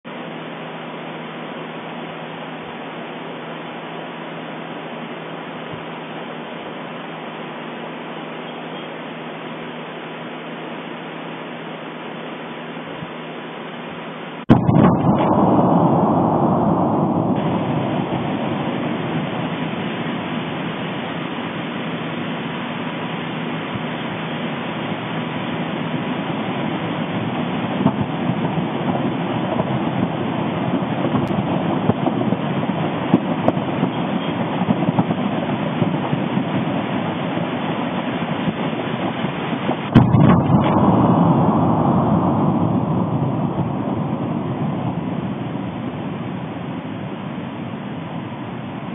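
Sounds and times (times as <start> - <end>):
volcanic eruption rumble: 0.1 - 48.9.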